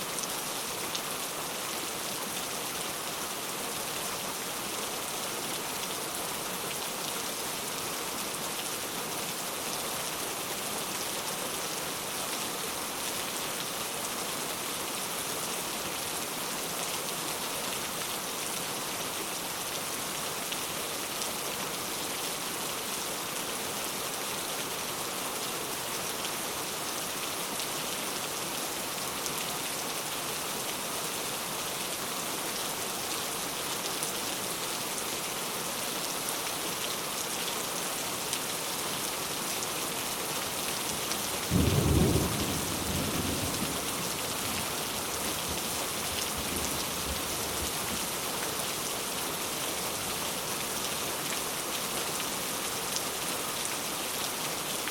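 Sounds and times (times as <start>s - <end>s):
rain hissing on surfaces: 0.0s - 54.9s.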